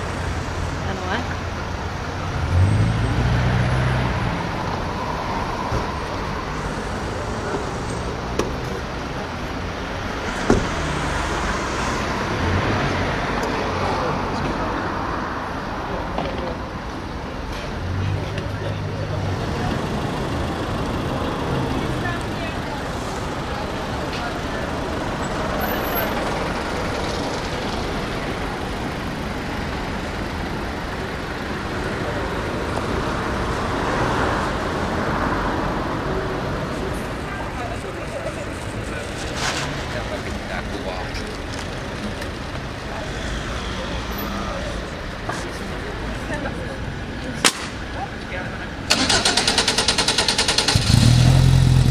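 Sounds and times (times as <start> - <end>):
city street traffic: 0.0 - 51.9
motor vehicle noise: 0.0 - 51.9
faint voices: 4.6 - 49.9.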